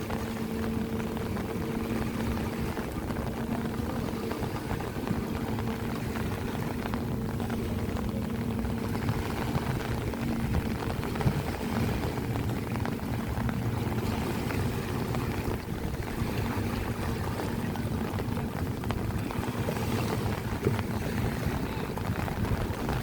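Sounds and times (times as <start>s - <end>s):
motor droning: 0.0s - 23.0s
wind noise: 0.0s - 23.0s.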